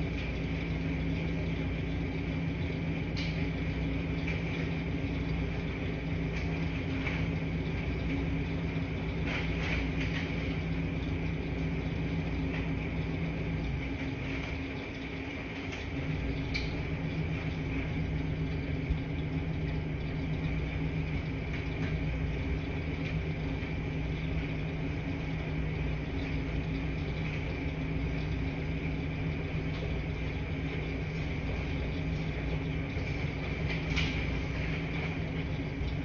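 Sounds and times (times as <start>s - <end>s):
washing machines humming: 0.0s - 36.0s.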